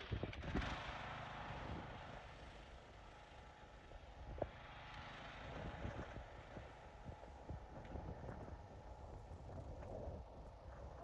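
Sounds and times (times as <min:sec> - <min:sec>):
lawnmower engine idling faintly: 0:00.0 - 0:11.0.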